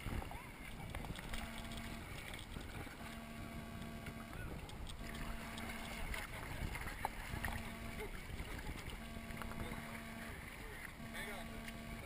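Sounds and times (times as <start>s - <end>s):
water sloshing and lapping: 0.0s - 12.0s.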